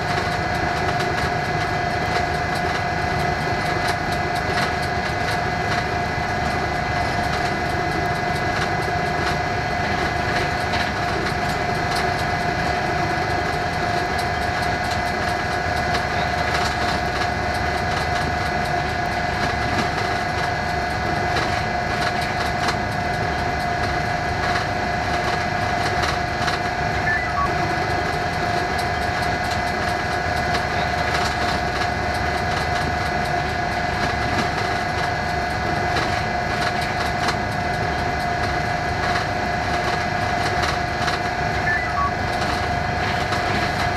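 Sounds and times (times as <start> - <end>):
constant whine: 0.0 - 43.9
diesel locomotive running: 0.0 - 43.9
wheels clicking on rails: 0.0 - 43.9.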